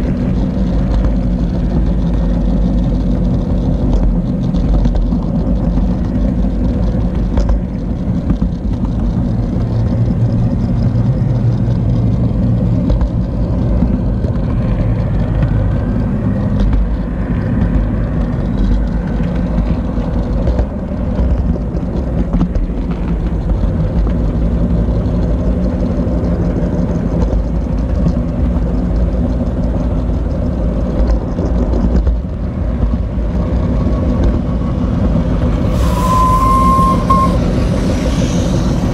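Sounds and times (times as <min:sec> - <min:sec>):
wheels rumbling on rails: 0:00.0 - 0:38.9.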